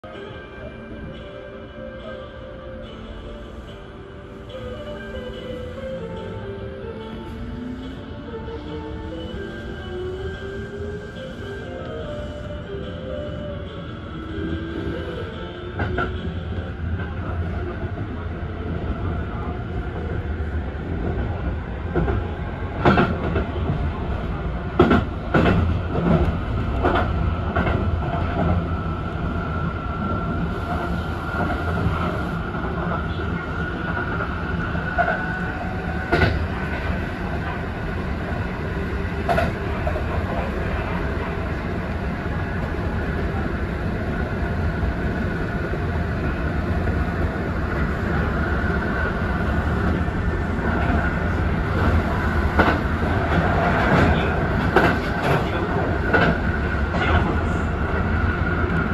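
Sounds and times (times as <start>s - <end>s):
train rumble with high tone: 0.0s - 58.9s.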